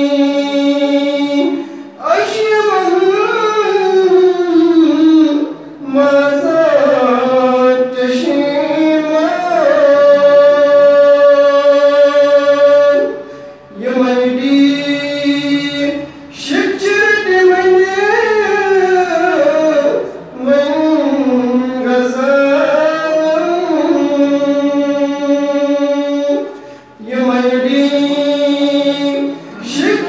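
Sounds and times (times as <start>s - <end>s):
man singing unaccompanied: 0.0s - 30.0s.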